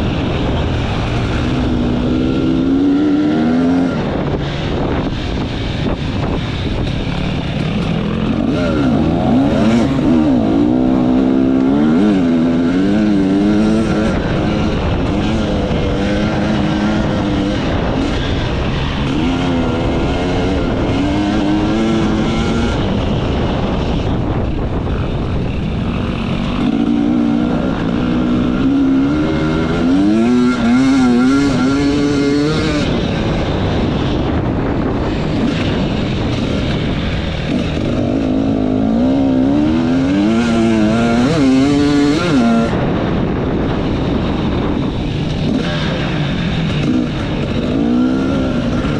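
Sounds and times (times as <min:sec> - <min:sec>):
constant rushing noise: 0:00.0 - 0:48.9
motorcycle engine revving: 0:00.0 - 0:48.9.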